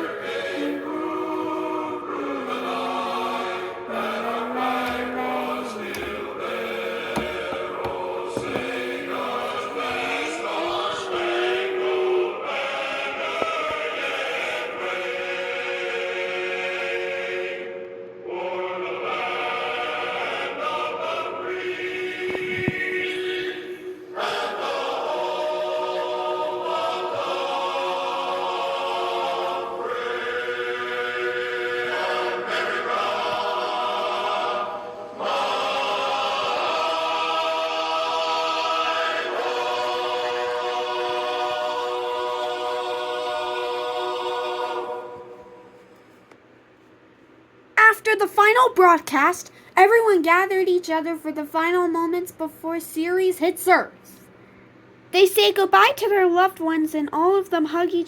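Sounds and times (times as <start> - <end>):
solemn choral music: 0.0 - 46.8.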